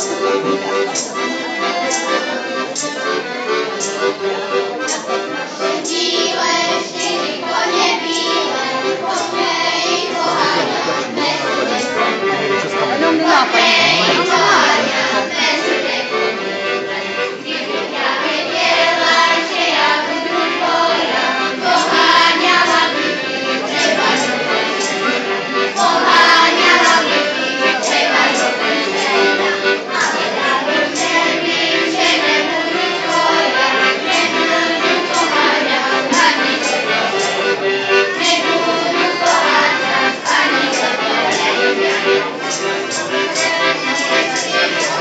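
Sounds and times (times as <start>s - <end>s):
accordion folk tune: 0.0s - 45.0s
children singing: 4.8s - 45.0s.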